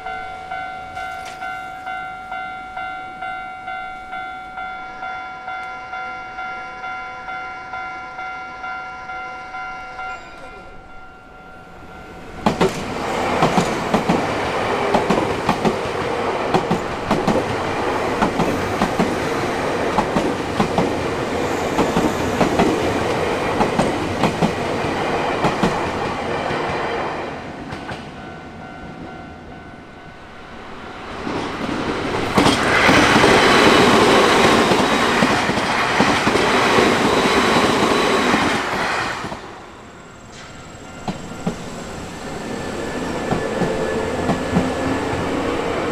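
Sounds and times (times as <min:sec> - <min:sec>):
electric train passing: 0:00.0 - 0:45.9.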